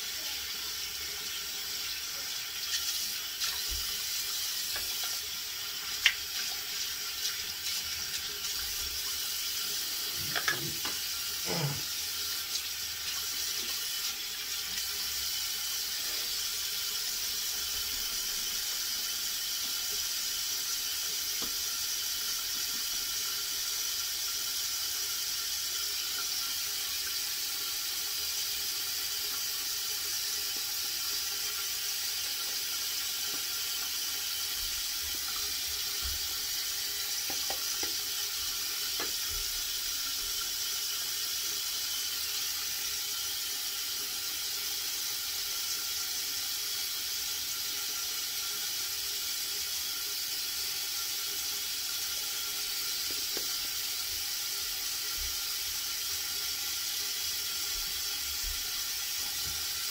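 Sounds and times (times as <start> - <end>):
shower water running: 0.0 - 59.9.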